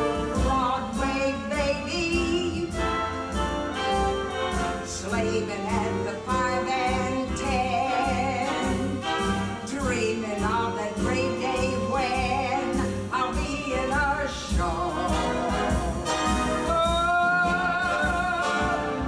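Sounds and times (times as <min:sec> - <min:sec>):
woman singing with vibrato: 0:00.0 - 0:03.9, 0:04.6 - 0:19.0
orchestral accompaniment: 0:00.0 - 0:19.0.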